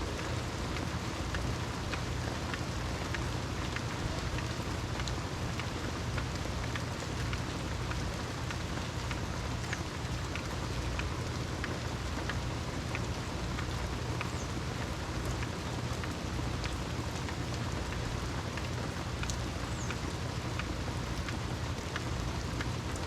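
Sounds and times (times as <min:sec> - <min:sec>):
raindrops ticking: 0:00.0 - 0:23.0
steady rain falling: 0:00.0 - 0:23.0.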